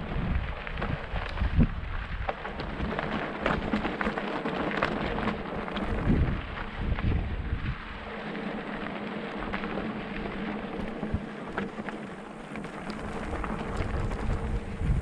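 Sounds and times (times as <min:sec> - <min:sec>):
wind buffeting microphone: 0:00.0 - 0:04.2, 0:04.8 - 0:15.0
bike clicks and rattles: 0:00.0 - 0:15.0
bike tyres crunching on gravel: 0:00.0 - 0:15.0.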